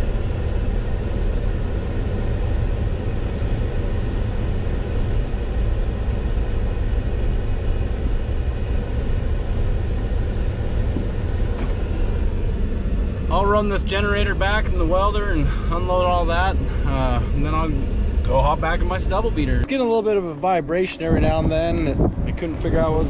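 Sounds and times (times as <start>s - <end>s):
truck rumbling from inside cab: 0.0s - 23.0s.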